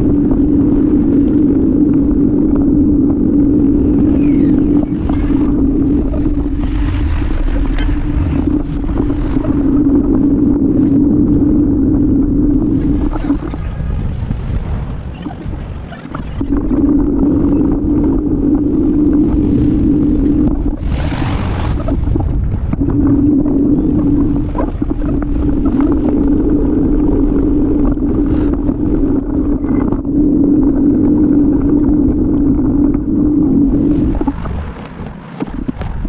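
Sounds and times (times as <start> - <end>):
constant hum: 0.0 - 36.0
wind and street noise: 0.0 - 36.0.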